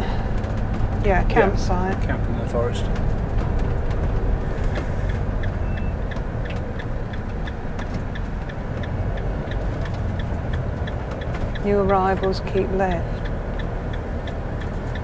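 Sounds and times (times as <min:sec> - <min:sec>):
engine and road rumble: 0:00.0 - 0:15.0
light even ticking: 0:02.8 - 0:15.0.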